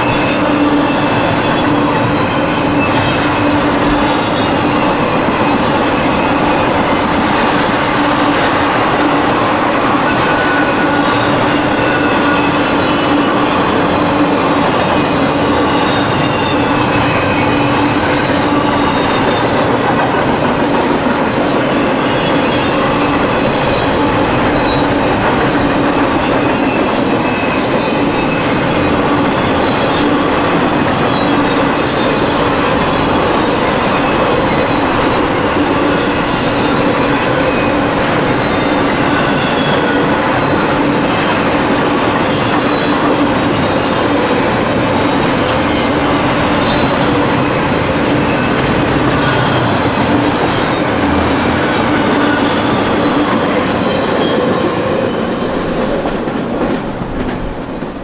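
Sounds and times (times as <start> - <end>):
steel train wheels on rail: 0.0 - 58.0.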